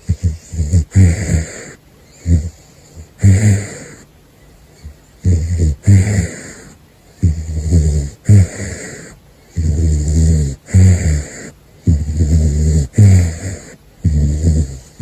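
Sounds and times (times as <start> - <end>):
caracal snoring: 0.0 - 15.0.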